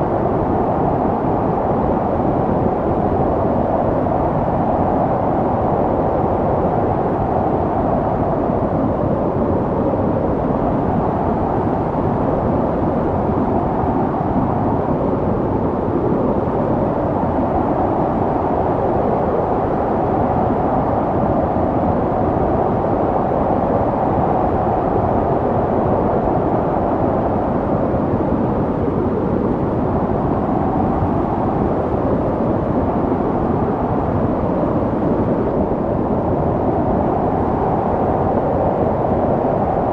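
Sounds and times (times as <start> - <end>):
snowstorm wind blowing: 0.0 - 39.9.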